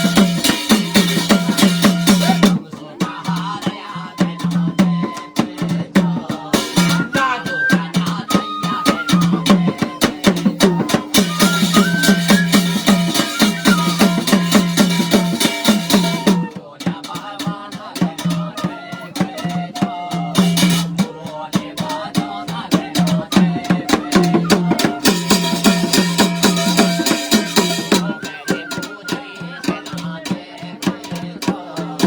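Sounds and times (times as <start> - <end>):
rapid drum strokes: 0.0 - 32.0.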